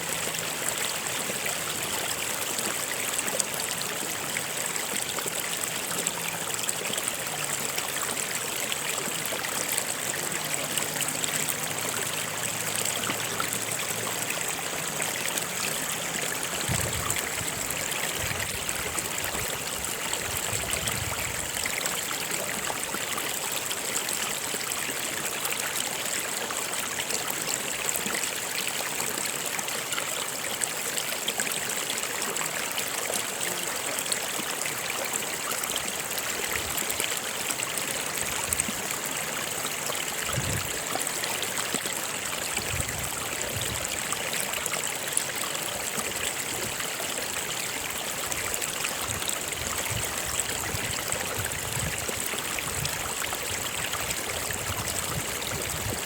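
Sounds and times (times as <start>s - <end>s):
soft low water gurgles: 0.0s - 56.0s
stream water rushing: 0.0s - 56.0s.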